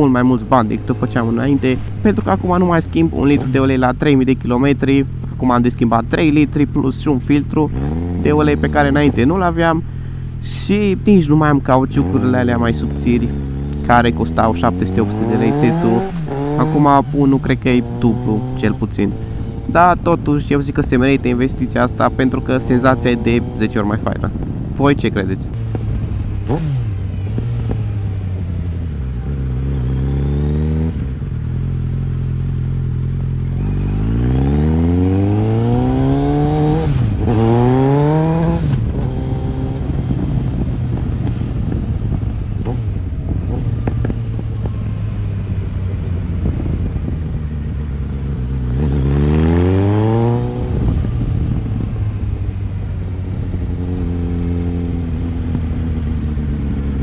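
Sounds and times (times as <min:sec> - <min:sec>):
motorcycle engine revving: 0:00.0 - 0:24.8, 0:25.5 - 0:57.0
gear change: 0:00.0 - 0:57.0.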